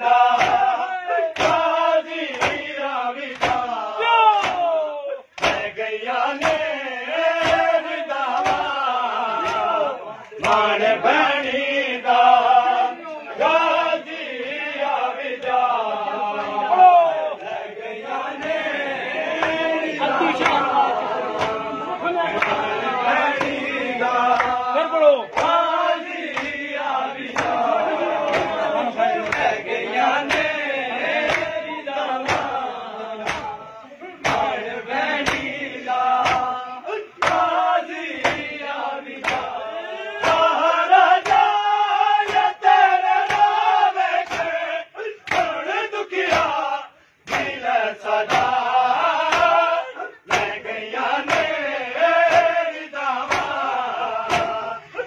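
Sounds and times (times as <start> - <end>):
men chanting together: 0.0 - 55.0.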